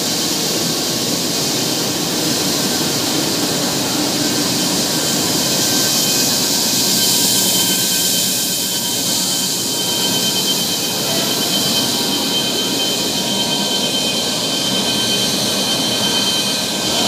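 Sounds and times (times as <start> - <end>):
machine hiss: 0.0 - 17.0
faint high whines: 0.4 - 17.0.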